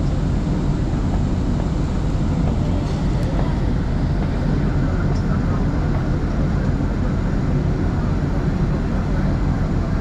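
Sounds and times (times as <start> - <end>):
bus engine rumble: 0.0 - 10.0.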